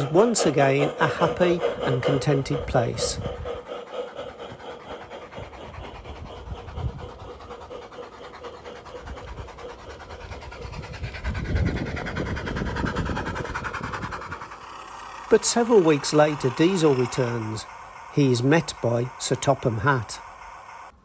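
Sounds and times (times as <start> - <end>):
model train rumbling: 0.0 - 20.9
rapid clicking of train wheels: 0.0 - 21.0.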